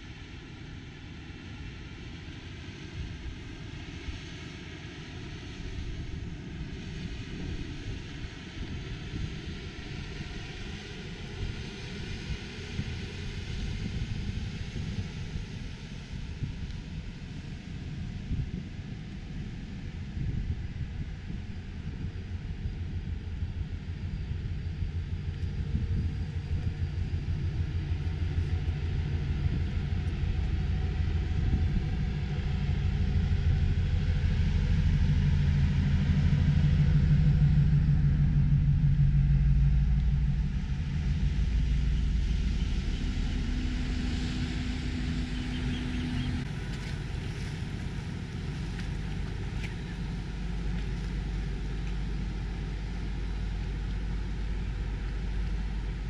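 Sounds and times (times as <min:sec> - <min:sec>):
ship engine rumble: 0:05.6 - 0:56.0.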